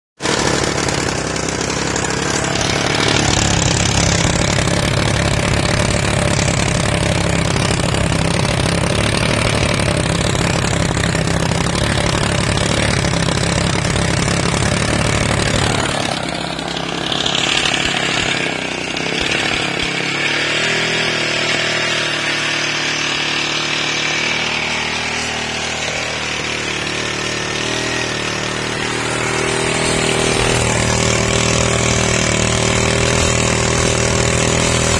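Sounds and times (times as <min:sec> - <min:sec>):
small engine running: 0:00.2 - 0:34.9.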